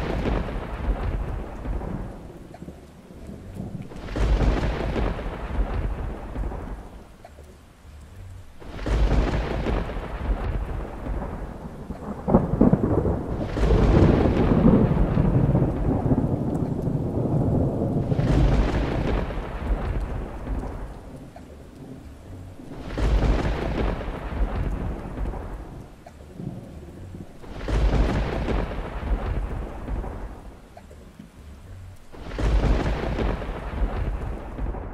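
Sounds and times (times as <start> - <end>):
rain falling: 0.0 - 34.9
thunder rumbling: 0.0 - 34.9.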